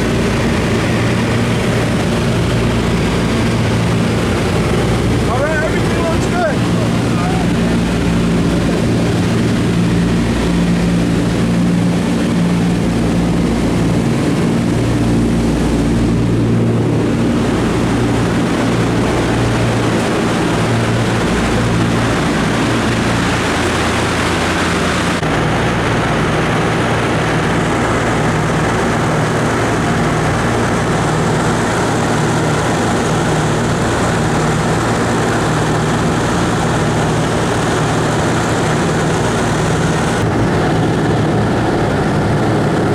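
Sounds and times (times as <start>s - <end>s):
aircraft engines droning in cabin: 0.0s - 42.9s.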